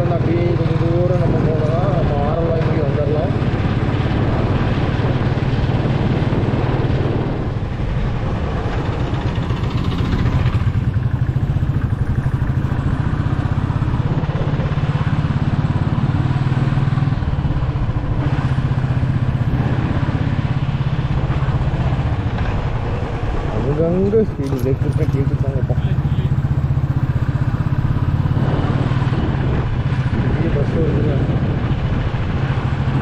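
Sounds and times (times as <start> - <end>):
wind noise: 0.0 - 25.9, 27.0 - 33.0
motorcycle engine running: 0.0 - 33.0.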